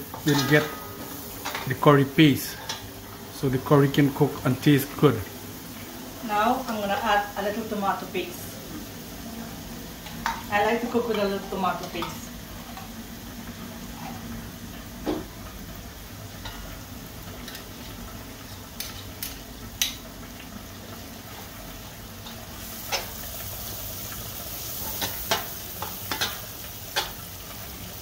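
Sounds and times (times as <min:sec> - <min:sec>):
paste sizzling in oil: 0:00.0 - 0:28.0.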